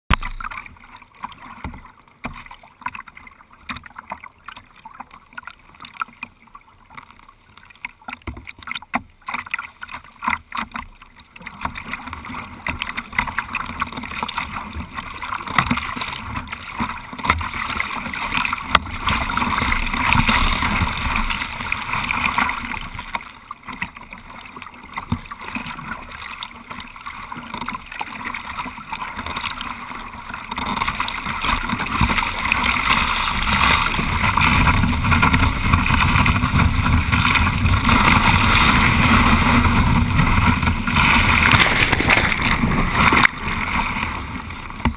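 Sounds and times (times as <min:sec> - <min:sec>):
kayak paddle splashing: 0:00.1 - 0:44.9
water rushing past kayak: 0:00.1 - 0:44.9.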